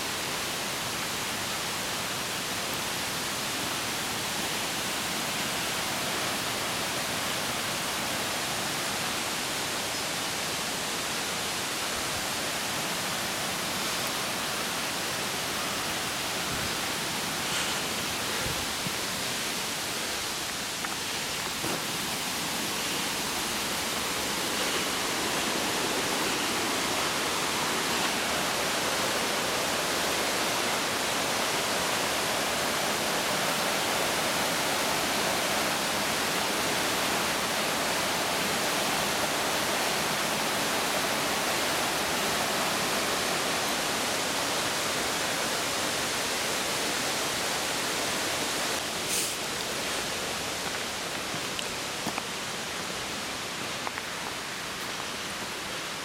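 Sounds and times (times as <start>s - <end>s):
mountain stream rushing: 0.0s - 56.0s.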